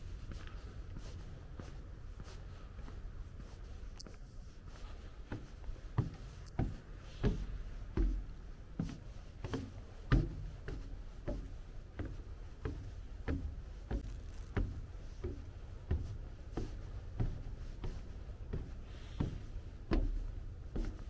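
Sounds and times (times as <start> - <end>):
footsteps walking: 0.0 - 21.0.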